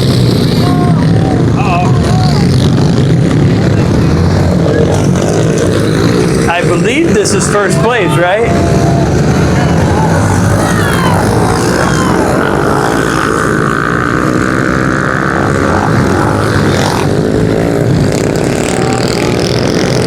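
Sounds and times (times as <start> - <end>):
pit bike engines revving: 0.0 - 20.0.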